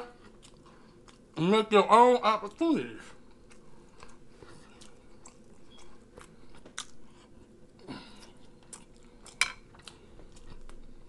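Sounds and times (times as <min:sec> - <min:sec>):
man chewing food: 0:00.0 - 0:01.4, 0:02.5 - 0:11.0.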